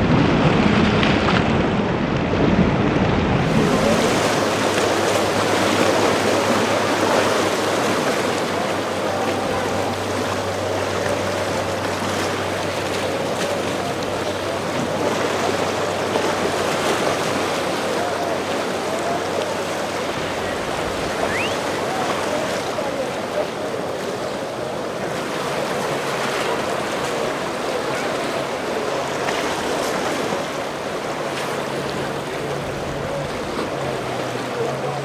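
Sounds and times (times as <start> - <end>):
boat motor hum: 0.0 - 35.0
waves breaking: 0.0 - 35.0.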